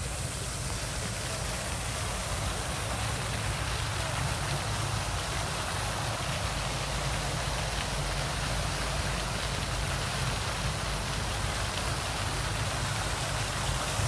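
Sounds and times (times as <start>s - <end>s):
fountain water splashing into basin: 0.0s - 14.0s.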